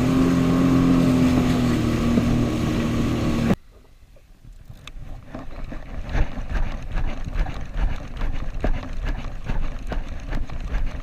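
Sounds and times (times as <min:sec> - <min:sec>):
waves slapping against hull: 0:00.0 - 0:03.6, 0:04.6 - 0:11.0.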